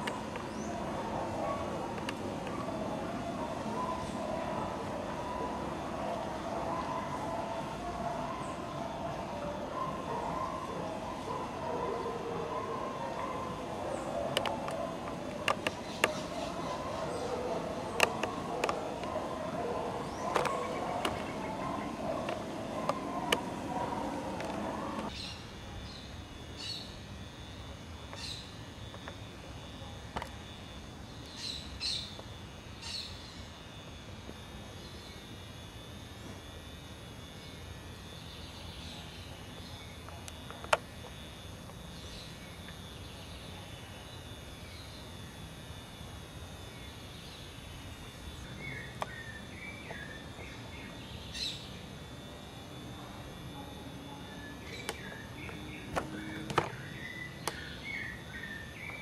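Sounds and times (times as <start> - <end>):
birds chirping: 0.0 - 35.7, 36.6 - 59.0
low noisy sound: 0.0 - 59.0
steady background hiss: 0.0 - 59.0.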